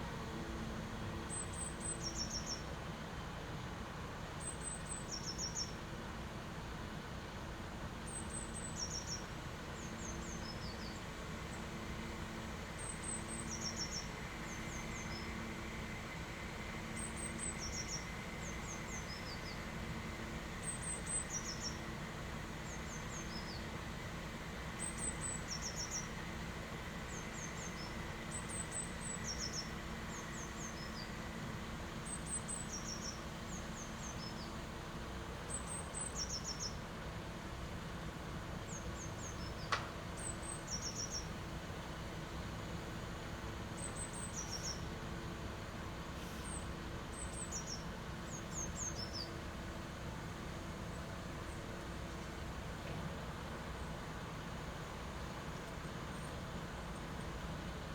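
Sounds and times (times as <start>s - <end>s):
low engine hum: 0.0s - 57.9s.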